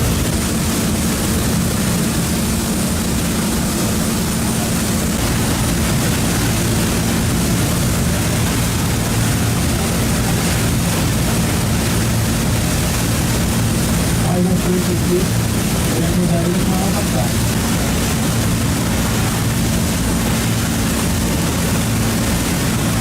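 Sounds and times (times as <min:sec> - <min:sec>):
boat engine drone: 0:00.0 - 0:23.0
steady rushing hiss: 0:00.0 - 0:23.0.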